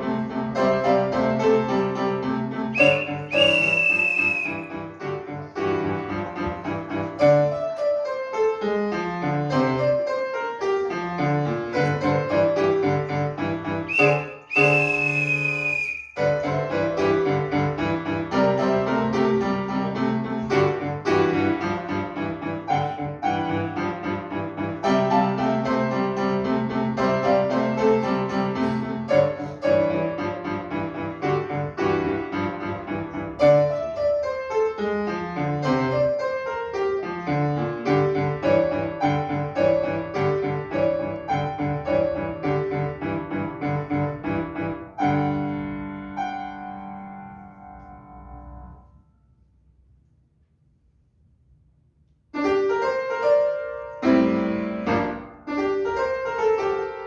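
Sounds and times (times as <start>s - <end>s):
brisk piano piece: 0.0s - 48.9s, 52.4s - 57.0s.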